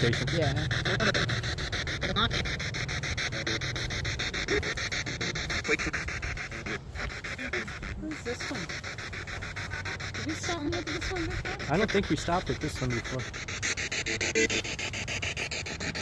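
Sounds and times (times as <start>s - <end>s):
pulsing radio static: 0.0s - 15.0s.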